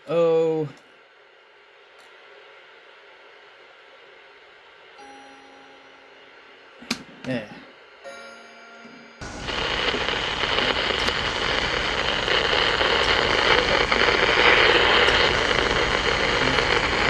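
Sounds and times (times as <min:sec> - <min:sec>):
television static hiss: 0:00.0 - 0:08.0, 0:09.2 - 0:17.0.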